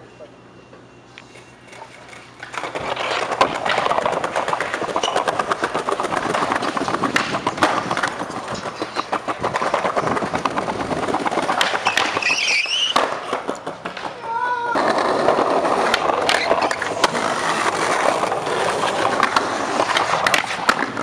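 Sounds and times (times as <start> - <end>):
skateboard wheels rolling on pavement: 1.1 - 21.0
wheels clicking over slab joints: 1.6 - 21.0
skateboard knocking on ground: 1.8 - 21.0.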